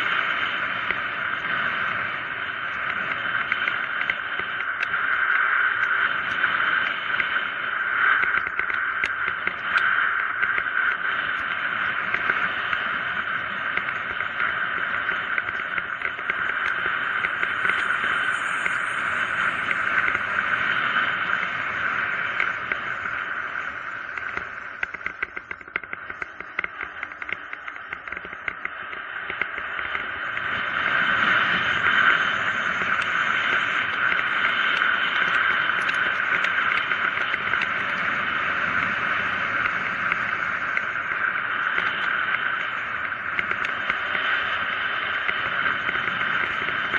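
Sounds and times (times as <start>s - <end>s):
freewheel ticking: 0.0s - 46.9s
rushing wind: 0.0s - 46.9s.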